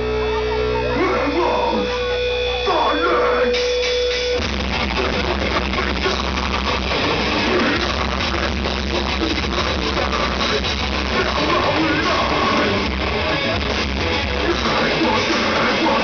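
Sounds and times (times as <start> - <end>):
metal band playing live: 0.0 - 16.0.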